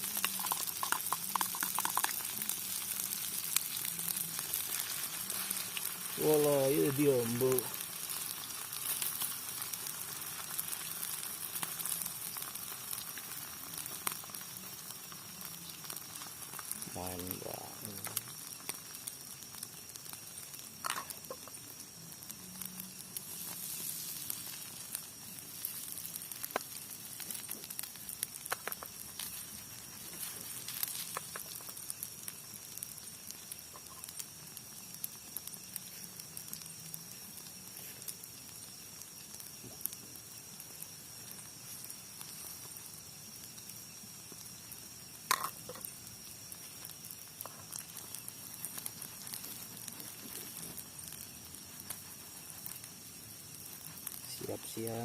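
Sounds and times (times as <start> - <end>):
food sizzling in frying pan: 0.0 - 55.0.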